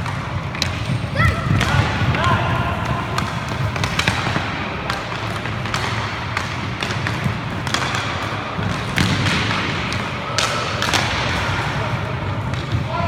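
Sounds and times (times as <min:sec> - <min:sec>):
sticks and puck clacking on floor: 0:00.0 - 0:13.0.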